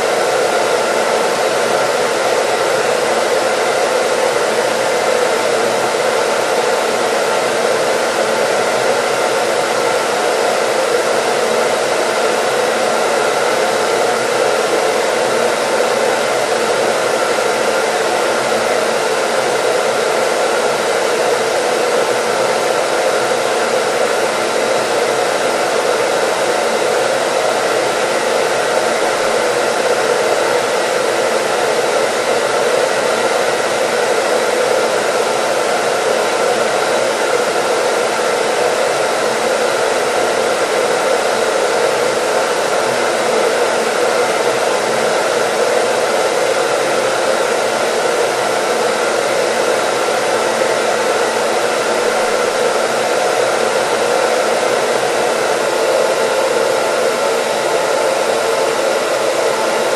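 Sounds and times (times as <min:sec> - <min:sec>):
hair dryer blowing air: 0:00.0 - 0:59.9.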